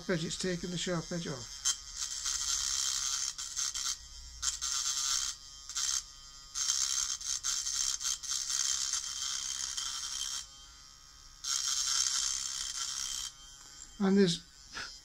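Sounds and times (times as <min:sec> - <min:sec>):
rotary file rasping on metal: 0:00.0 - 0:10.6, 0:11.4 - 0:15.0
small motor whine: 0:00.0 - 0:15.0.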